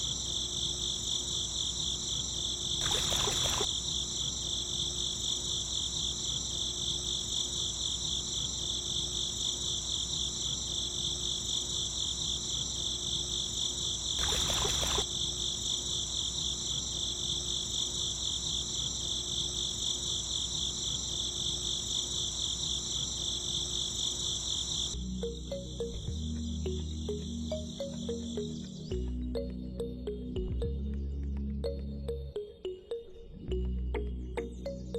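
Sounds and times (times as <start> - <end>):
crickets chirping: 0.0 - 30.3.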